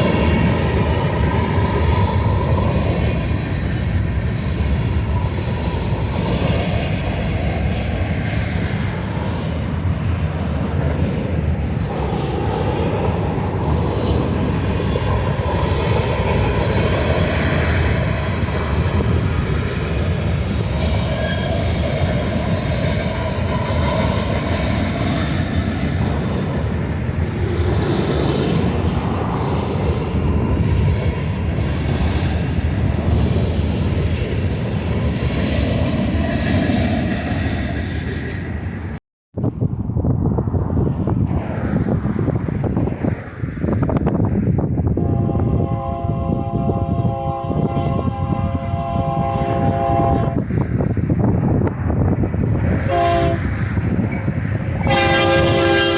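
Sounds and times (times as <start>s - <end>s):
freight train rumbling on rails: 0.0s - 55.9s.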